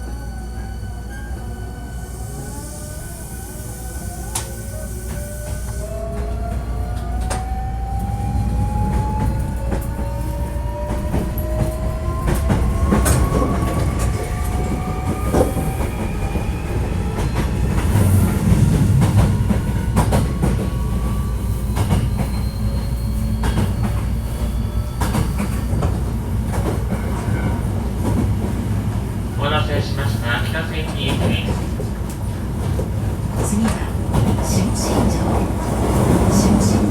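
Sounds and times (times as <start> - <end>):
train wheels rumbling: 0.0 - 36.9
rail joint clicks: 3.8 - 29.1, 29.9 - 36.9.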